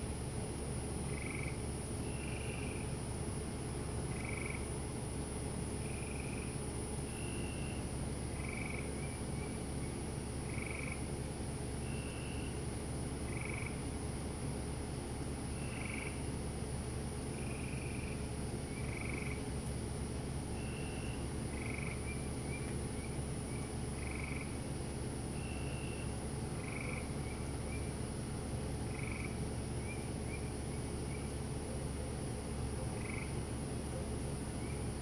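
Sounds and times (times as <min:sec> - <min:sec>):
frogs calling: 0:00.8 - 0:35.0.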